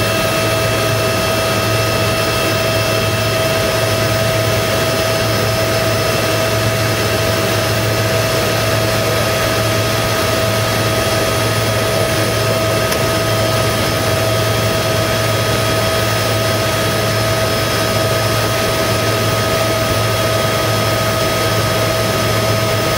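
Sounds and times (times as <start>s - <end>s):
boat motor droning: 0.0s - 22.9s.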